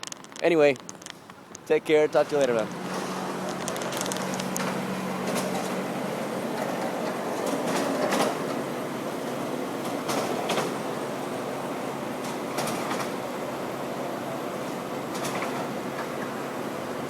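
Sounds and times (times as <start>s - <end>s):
ladder lift motor rumble: 0.0s - 17.0s.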